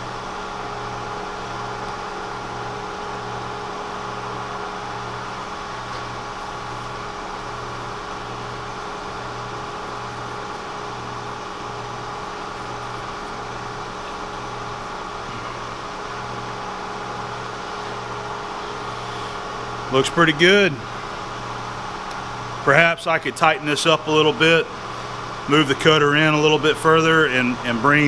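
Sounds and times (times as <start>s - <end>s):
milling machine humming: 0.0s - 28.0s.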